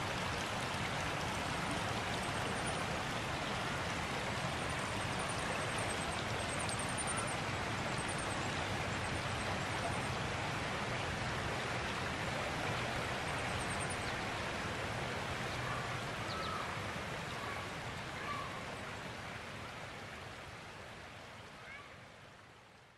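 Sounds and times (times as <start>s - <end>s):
creek water rushing over rocks: 0.0s - 22.9s.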